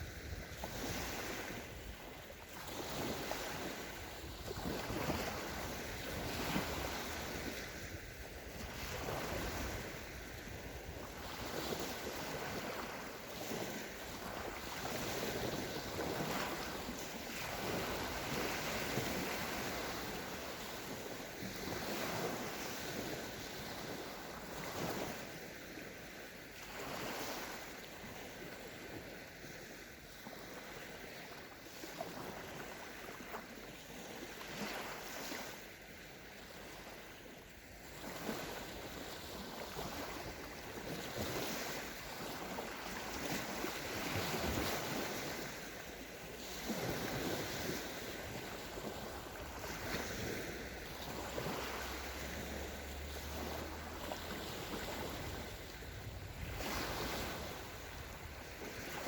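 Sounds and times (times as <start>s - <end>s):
waves washing on sandy shore: 0.0s - 59.0s
wind: 0.0s - 59.0s.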